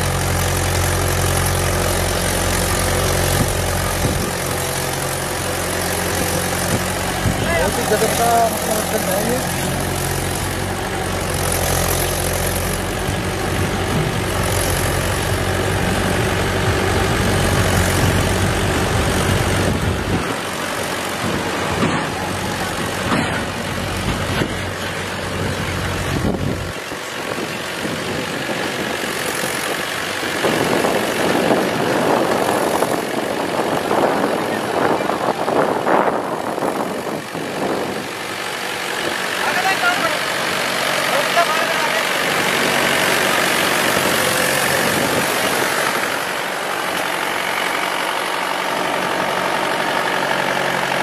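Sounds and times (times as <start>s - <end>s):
diesel tractor engine under load: 0.0s - 51.0s.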